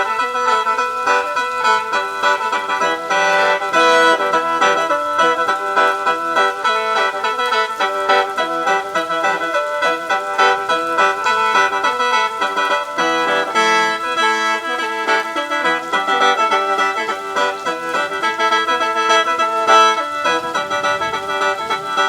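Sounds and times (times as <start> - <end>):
mouth organ melody: 0.0 - 22.0.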